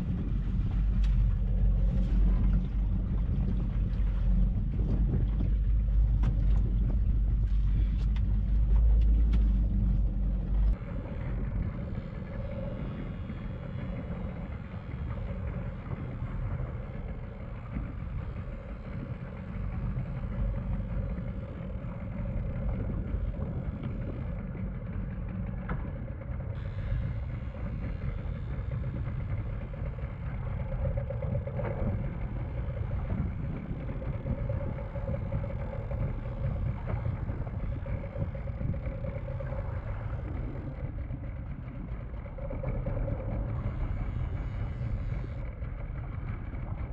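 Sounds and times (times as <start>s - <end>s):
small outboard motor running: 0.0s - 46.9s
water rushing against hull: 0.0s - 46.9s
wind buffeting microphone: 0.0s - 46.9s.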